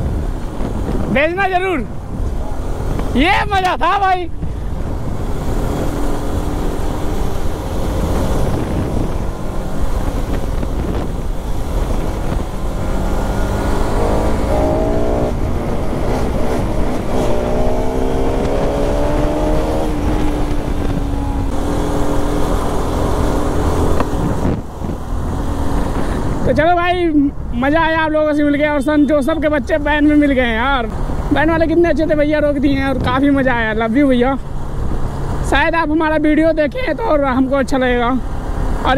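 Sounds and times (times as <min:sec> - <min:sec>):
wind rush on microphone: 0:00.0 - 0:36.9.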